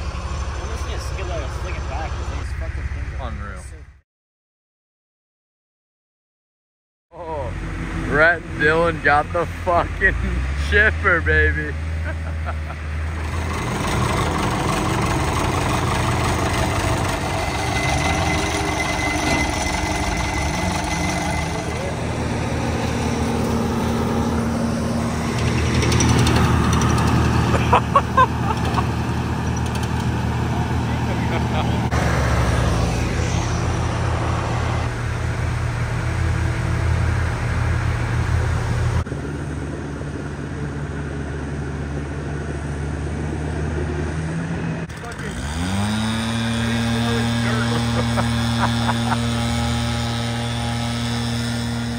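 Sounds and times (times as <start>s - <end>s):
wood chipper engine running: 0.0s - 3.3s, 7.3s - 51.9s.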